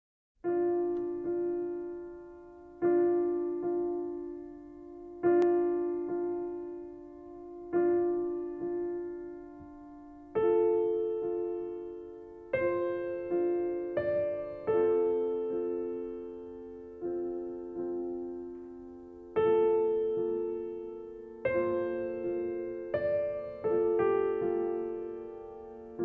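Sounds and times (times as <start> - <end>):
slow soft piano music: 0.4 - 26.0.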